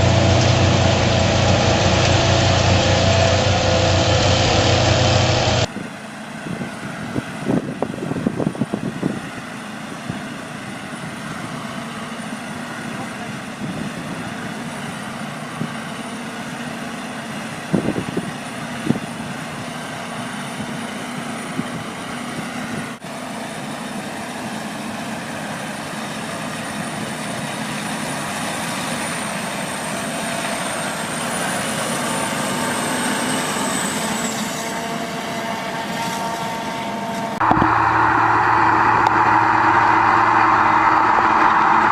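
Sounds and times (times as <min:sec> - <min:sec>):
heavy machine running: 0:00.0 - 0:41.9.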